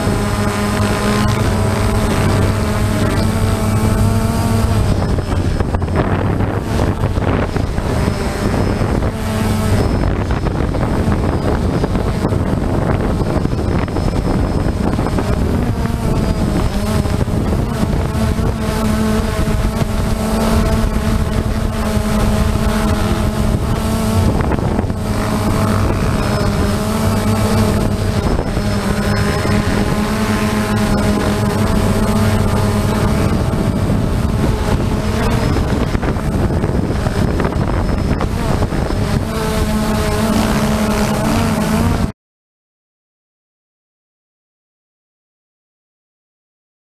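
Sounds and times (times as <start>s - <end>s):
drone propellers buzzing: 0.0s - 42.1s.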